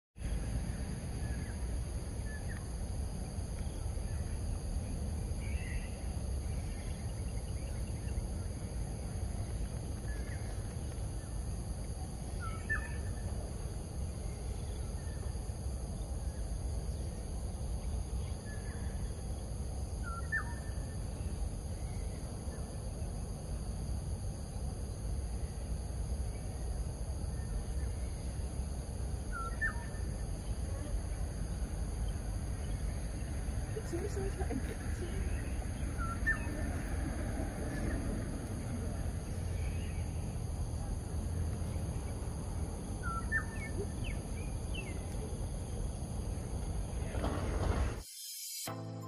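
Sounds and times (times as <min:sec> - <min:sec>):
high insect drone: 0:00.2 - 0:48.8.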